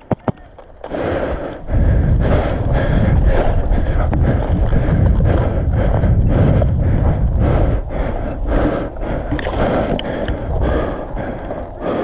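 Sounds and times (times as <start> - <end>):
low rumbling noise: 0.6 - 12.0.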